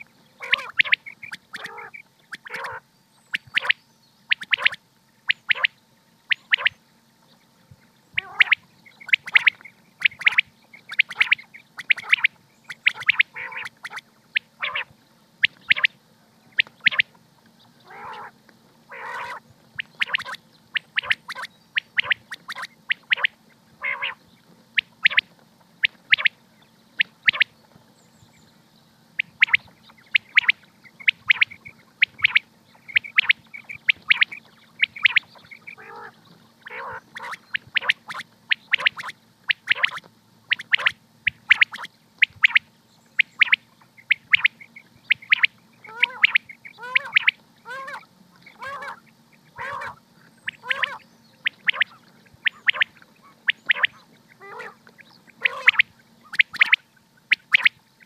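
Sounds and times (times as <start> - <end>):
quail calling: 0.0 - 27.6, 29.1 - 57.8
steady low hum: 0.0 - 58.0.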